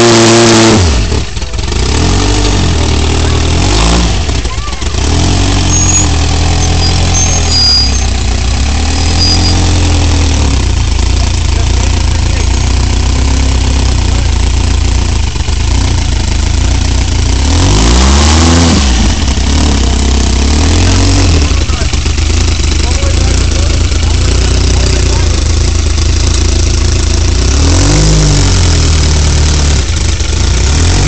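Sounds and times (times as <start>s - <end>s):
engine running at low revs: 0.0s - 31.0s.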